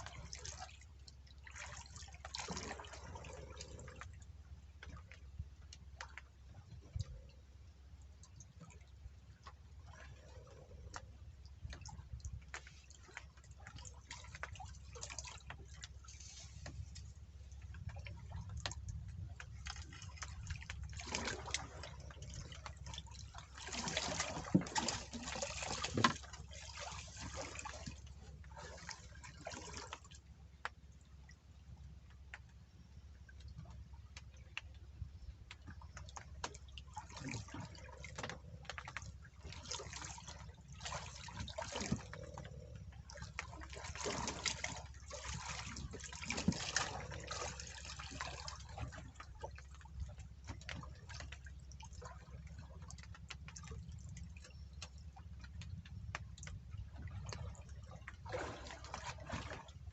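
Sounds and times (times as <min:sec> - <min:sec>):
water splashing and dripping: 0:00.0 - 0:59.9.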